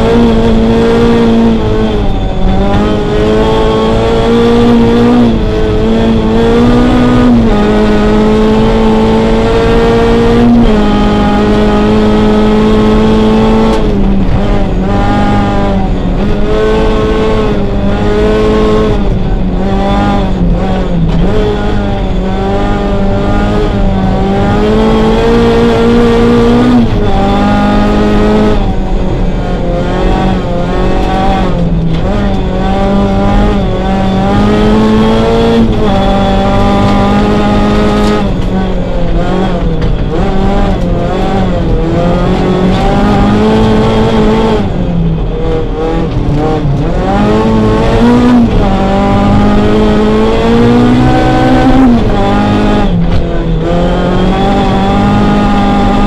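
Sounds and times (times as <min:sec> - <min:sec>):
rally car engine running hard: 0:00.0 - 0:56.0.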